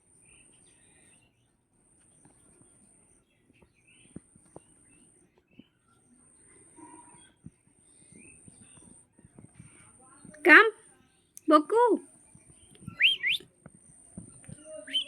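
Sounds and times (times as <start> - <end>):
faint bird chirps: 0.0 - 10.2, 12.2 - 13.4, 14.3 - 15.0.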